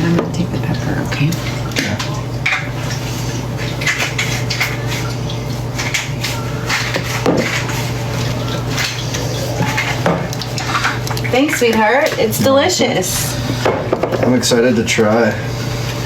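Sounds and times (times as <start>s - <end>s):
kitchen utensils and bowls clinking: 0.0s - 15.3s.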